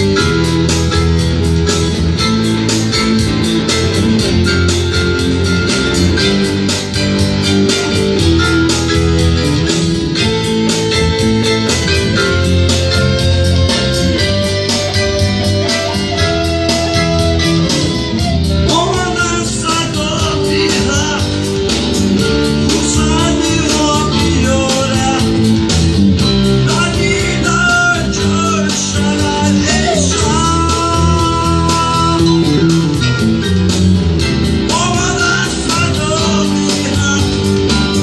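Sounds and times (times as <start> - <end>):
live band with guitar: 0.0 - 38.0.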